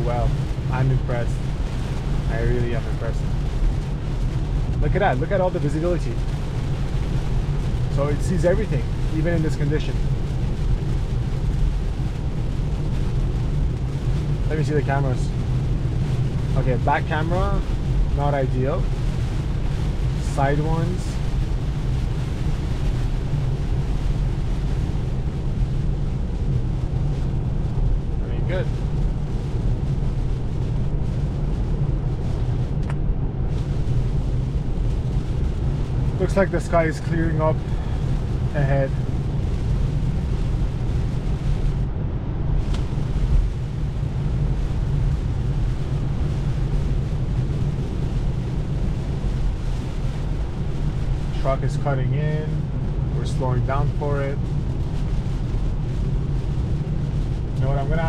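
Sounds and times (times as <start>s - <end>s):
hiss of rain and tyre spray: 0.0s - 58.0s
low road rumble in car: 0.0s - 58.0s.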